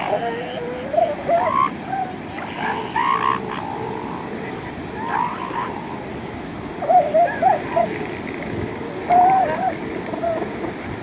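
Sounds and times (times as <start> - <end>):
seals yelping: 0.0 - 10.6.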